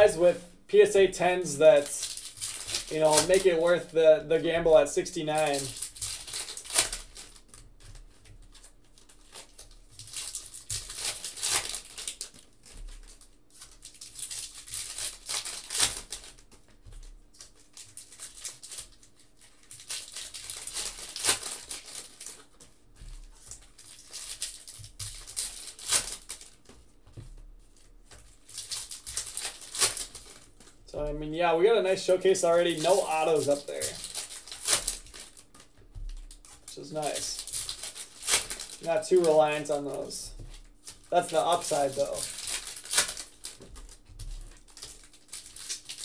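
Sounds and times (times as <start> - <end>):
foil wrapper crinkling: 0.0 - 46.0
foil wrapper ripping: 0.8 - 26.7, 27.8 - 30.8, 31.8 - 46.0.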